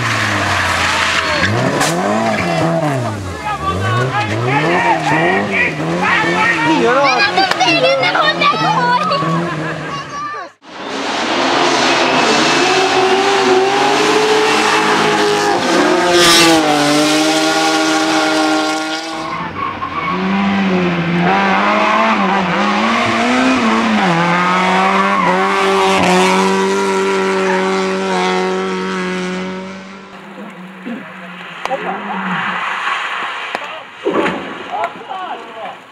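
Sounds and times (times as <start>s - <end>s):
racing car engines revving: 0.0s - 35.9s
tyres skidding and squealing: 0.0s - 35.9s.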